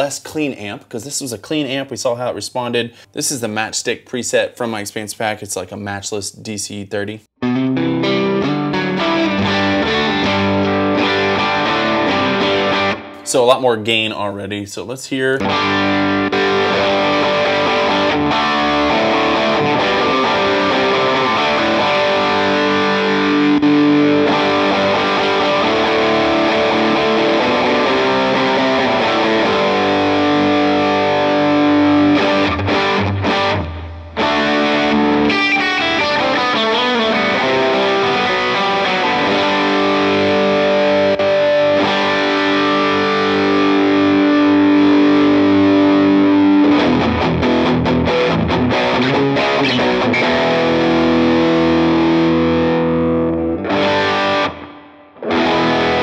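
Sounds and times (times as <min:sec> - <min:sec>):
overdriven electric guitar chords: 0:07.4 - 0:13.3, 0:15.4 - 0:56.0.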